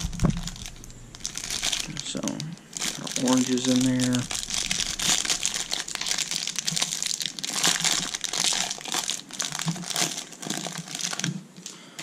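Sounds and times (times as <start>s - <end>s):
plastic wrapper tearing and crinkling: 0.0s - 11.7s.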